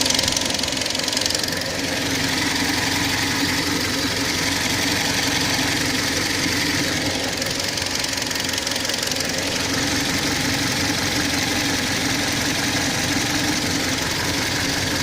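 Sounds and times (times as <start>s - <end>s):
car engine idling: 0.0s - 15.0s
rapid engine knock: 0.0s - 15.0s.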